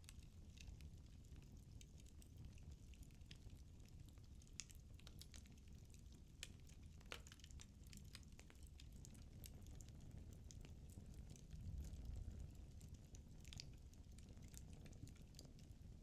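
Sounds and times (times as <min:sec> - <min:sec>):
wood fire crackling: 0:00.1 - 0:15.8.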